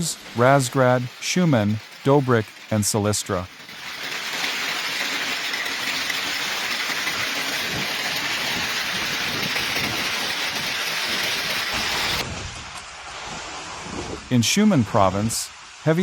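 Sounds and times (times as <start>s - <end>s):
rain pouring: 0.0s - 16.0s.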